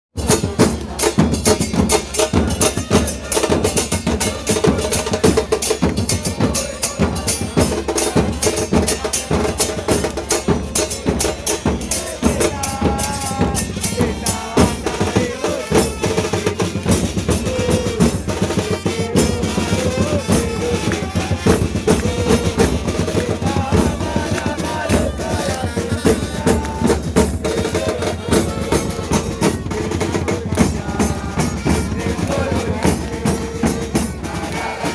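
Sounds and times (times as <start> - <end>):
bass and snare drums pounding: 0.2 - 34.9
tune over drums: 0.2 - 34.9.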